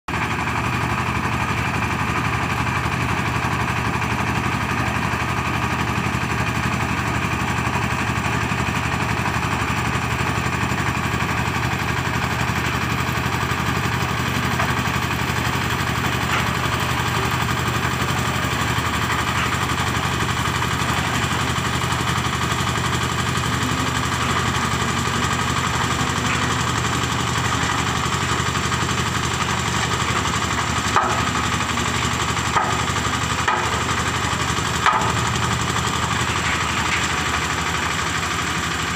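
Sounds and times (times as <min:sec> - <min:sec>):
concrete mixer engine running: 0:00.1 - 0:38.9.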